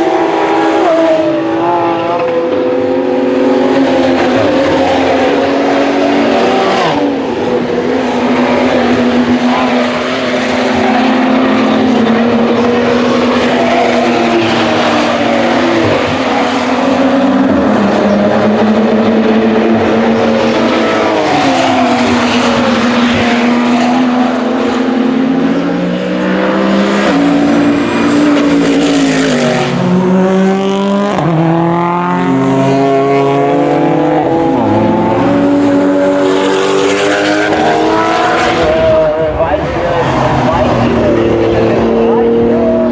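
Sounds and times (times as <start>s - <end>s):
race car engines at high revs: 0.0s - 42.9s.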